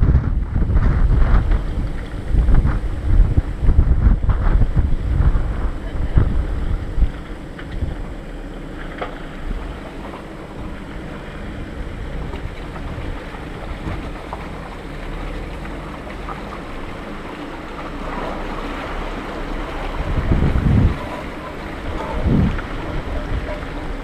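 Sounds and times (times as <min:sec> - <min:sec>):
vehicle engine running low: 0:00.0 - 0:24.0
water sloshing around tyres: 0:00.0 - 0:24.0
wind rumbling on microphone: 0:00.0 - 0:24.0.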